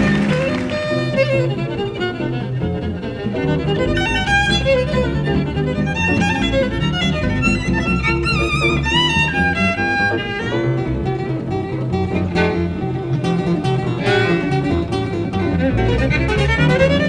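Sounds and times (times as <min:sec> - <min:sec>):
double bass: 0:00.0 - 0:17.0
guitar: 0:00.0 - 0:17.0
jazz violin with vibrato: 0:00.0 - 0:17.0.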